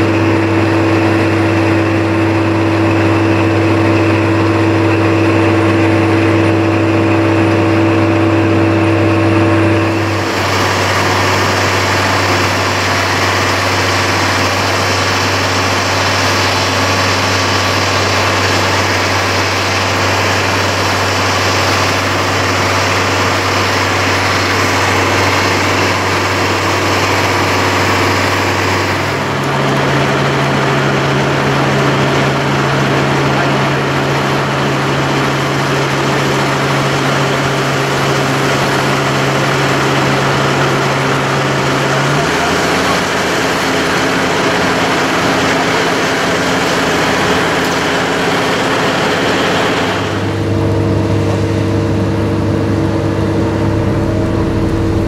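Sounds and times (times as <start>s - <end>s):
diesel engine droning: 0.0s - 55.0s
steady whine: 0.0s - 55.0s.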